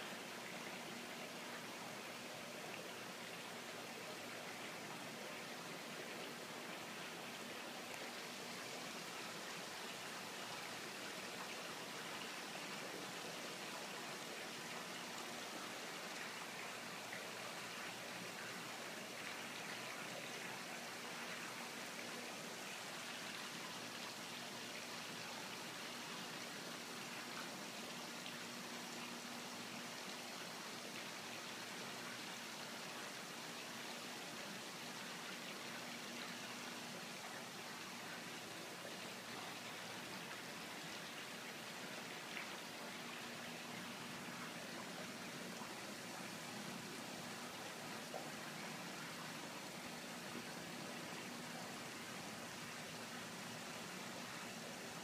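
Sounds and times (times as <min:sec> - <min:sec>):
faint steady hum: 0:00.0 - 0:55.0
water running into a pond: 0:00.0 - 0:55.0.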